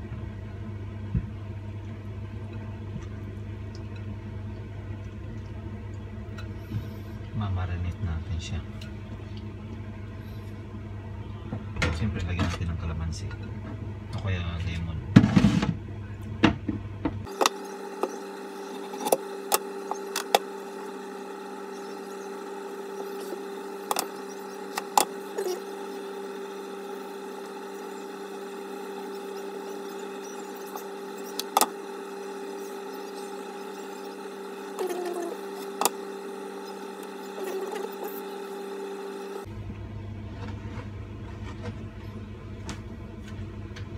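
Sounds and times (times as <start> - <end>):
appliance hum: 0.0 - 43.9.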